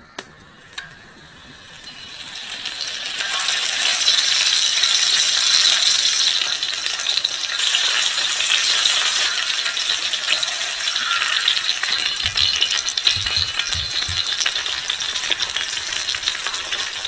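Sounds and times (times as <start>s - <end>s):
food sizzling in a pan: 0.6s - 17.0s.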